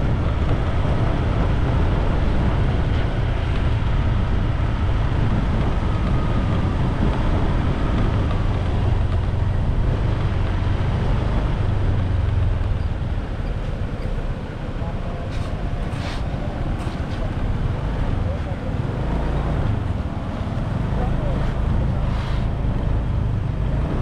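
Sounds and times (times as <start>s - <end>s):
bike rumbling on sandy lane: 0.0s - 24.0s.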